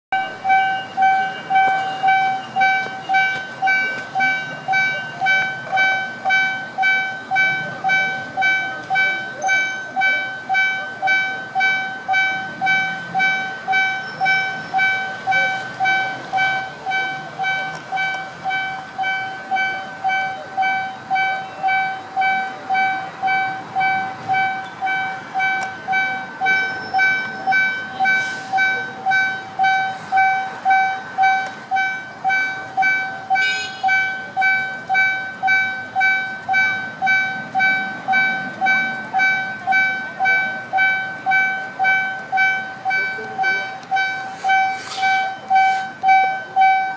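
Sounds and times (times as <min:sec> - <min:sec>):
level crossing warning bell: 0:00.1 - 0:46.9.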